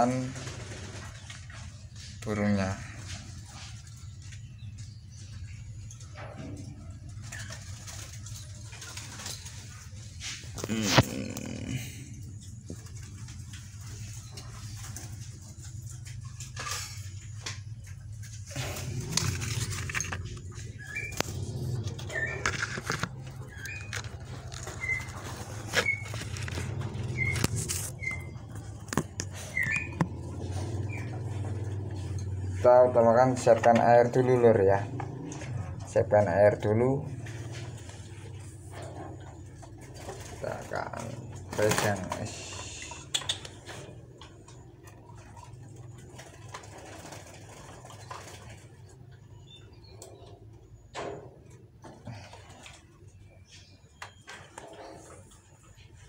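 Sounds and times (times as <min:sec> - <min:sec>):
steady low hum: 0:00.0 - 0:53.2.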